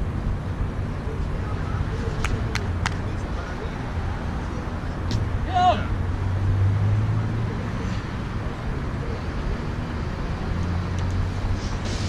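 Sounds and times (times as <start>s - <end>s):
low engine drone: 0.0s - 12.0s
passing cars rushing: 0.0s - 12.0s.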